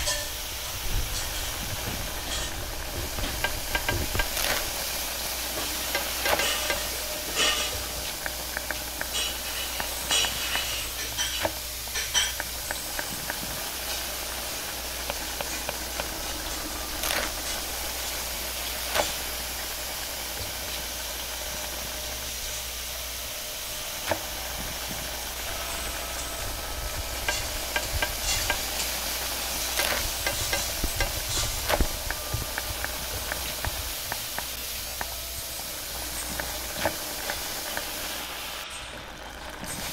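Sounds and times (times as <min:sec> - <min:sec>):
food sizzling in wok: 0:00.0 - 0:39.9
gas burner hiss: 0:00.0 - 0:39.9.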